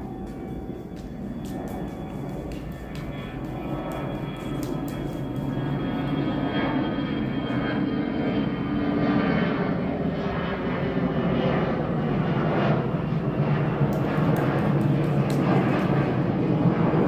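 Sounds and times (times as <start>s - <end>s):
airplane engines rumbling: 0.0s - 17.0s.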